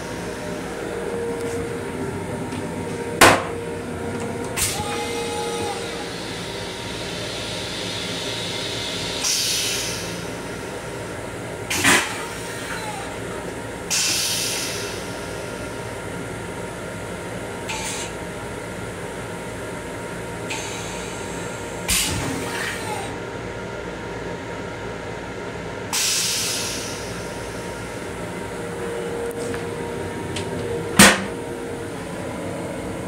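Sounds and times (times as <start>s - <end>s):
railcar steady hum: 0.0s - 33.0s.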